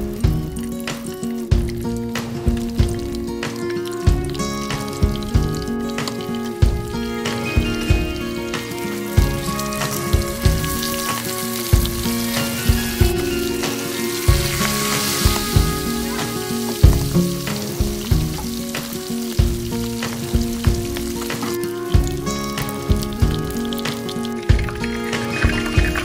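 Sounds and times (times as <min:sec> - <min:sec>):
background music: 0:00.0 - 0:26.0
fish sizzling in hot oil: 0:00.0 - 0:26.0.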